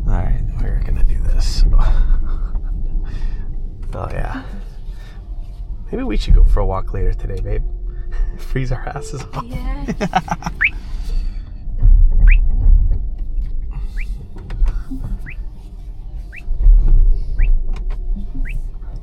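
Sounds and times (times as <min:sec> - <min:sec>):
road and tyre rumble: 0:00.0 - 0:07.9, 0:09.4 - 0:19.0.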